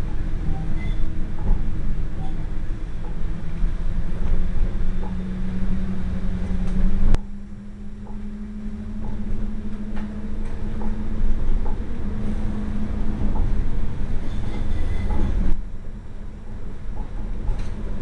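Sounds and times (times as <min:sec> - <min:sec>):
tram rumble and motor hum: 0:00.0 - 0:18.0.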